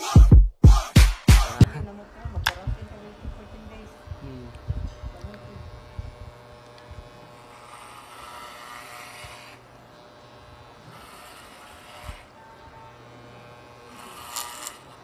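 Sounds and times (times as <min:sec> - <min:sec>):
electric hair clippers buzzing: 0:01.3 - 0:15.0.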